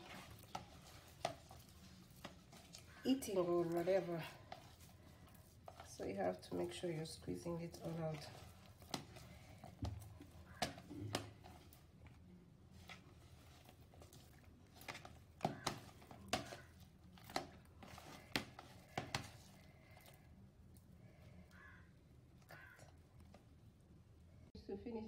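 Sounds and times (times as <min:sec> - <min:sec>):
hands kneading sticky dough: 0:00.0 - 0:24.3.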